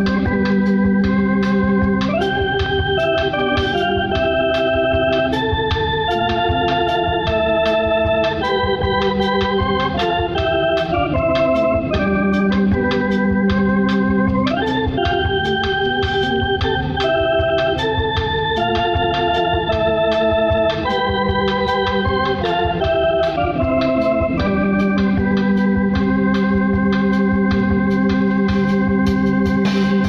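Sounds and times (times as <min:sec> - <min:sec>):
electronic organ chords: 0:00.0 - 0:30.0
steady tapping beat: 0:00.0 - 0:30.0.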